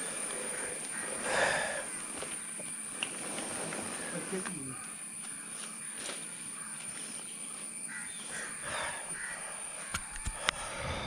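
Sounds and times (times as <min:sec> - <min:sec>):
crows cawing: 0:00.0 - 0:10.8.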